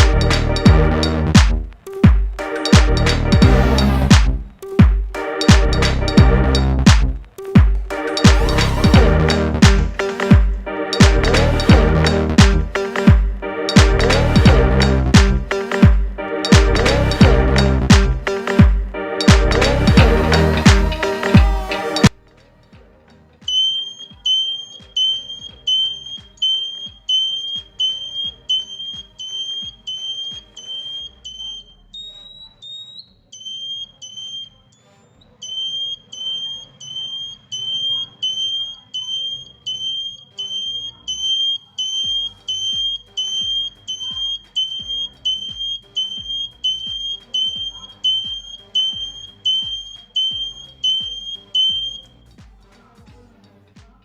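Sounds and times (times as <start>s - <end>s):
buzzer beeping: 2.4s - 7.2s, 7.8s - 22.2s, 23.4s - 52.1s.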